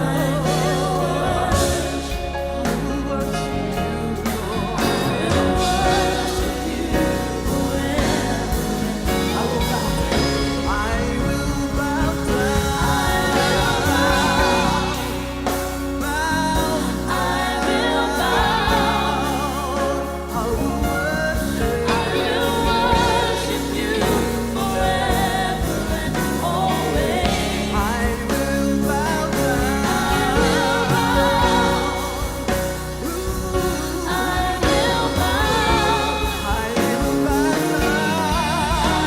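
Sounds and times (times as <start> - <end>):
band playing: 0.0 - 39.0
steady bass line: 0.0 - 39.0
voices singing with vibrato: 0.0 - 39.0.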